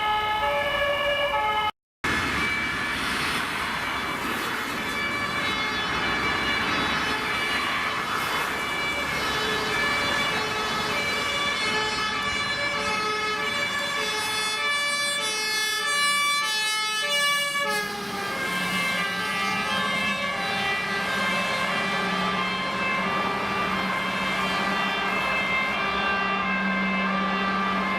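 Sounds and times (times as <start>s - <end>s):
two-tone sirens: 0.0s - 27.9s.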